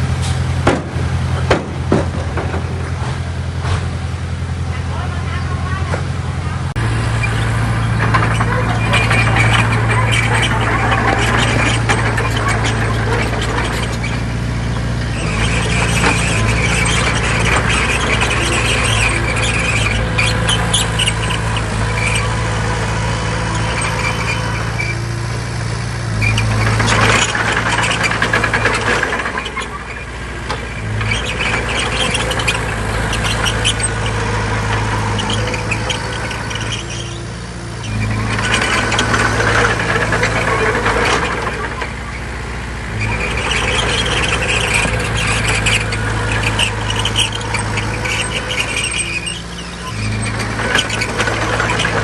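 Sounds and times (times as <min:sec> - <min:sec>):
bulldozer diesel engine: 0:00.0 - 0:52.0
steel tracks squealing and clanking: 0:00.0 - 0:52.0.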